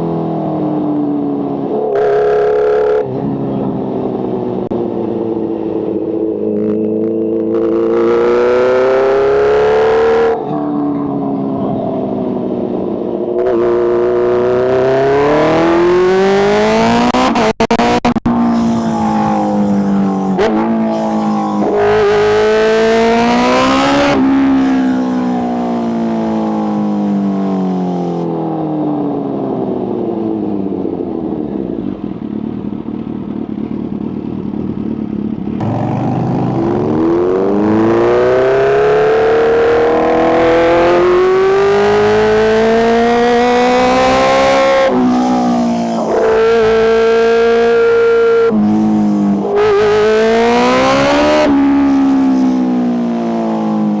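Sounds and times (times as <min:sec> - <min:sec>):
motorcycle engine accelerating hard: 0:00.0 - 0:54.0.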